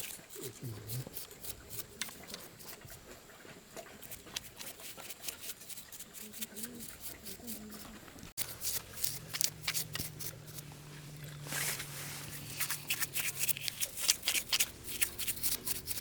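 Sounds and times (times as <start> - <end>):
faint low hum: 0.0 - 16.0
scraping and scratching strokes: 0.0 - 16.0.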